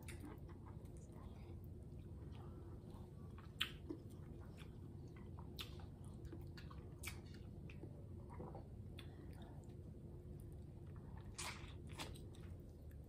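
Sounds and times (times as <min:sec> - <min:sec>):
person chewing: 0:00.0 - 0:09.8, 0:10.5 - 0:13.0.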